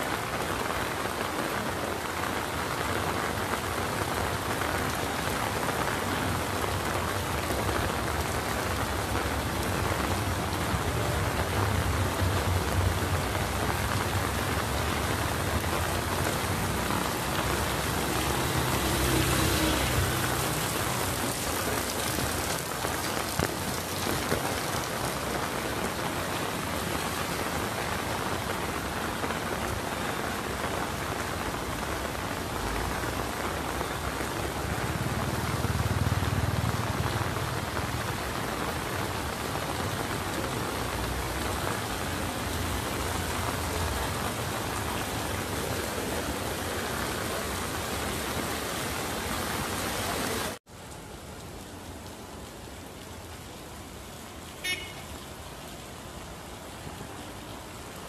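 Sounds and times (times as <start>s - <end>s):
heavy rain on street and awnings: 0.0s - 58.0s
vehicle passing on wet road: 0.1s - 58.0s.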